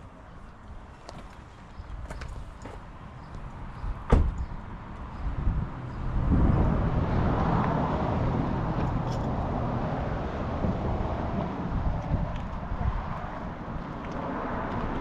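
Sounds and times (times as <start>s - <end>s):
vehicle running with low rumble: 2.1s - 15.0s.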